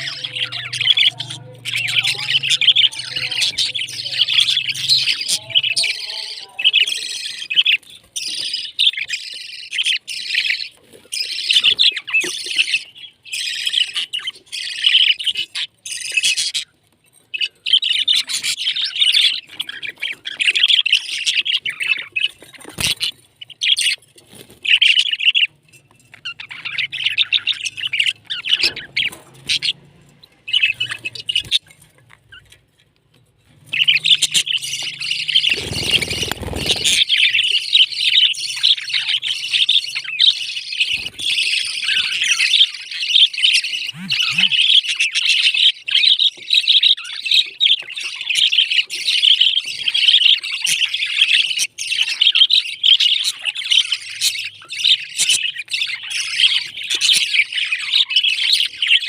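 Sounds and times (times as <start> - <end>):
parrots chirping and chattering: 0.0 - 59.0.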